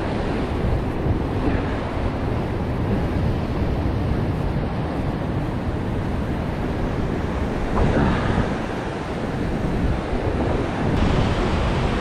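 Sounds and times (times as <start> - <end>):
ocean surf around rocks: 0.0 - 12.0
wind buffeting microphone: 0.0 - 12.0.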